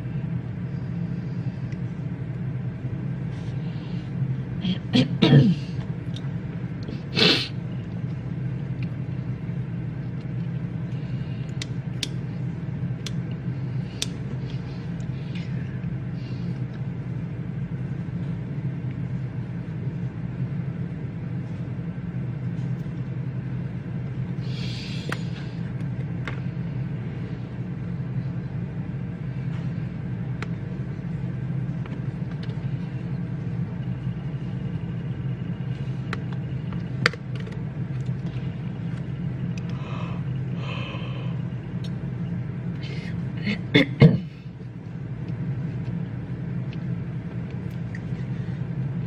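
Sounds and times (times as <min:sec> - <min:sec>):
low room hum: 0:00.0 - 0:49.0.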